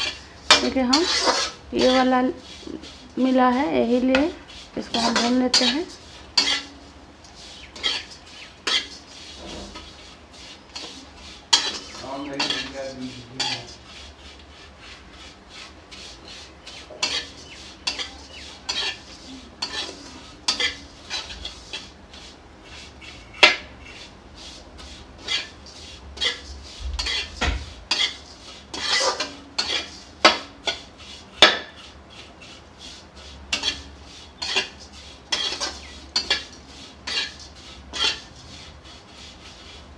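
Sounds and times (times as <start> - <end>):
steel spatula scraping a pan: 0.0 - 39.9.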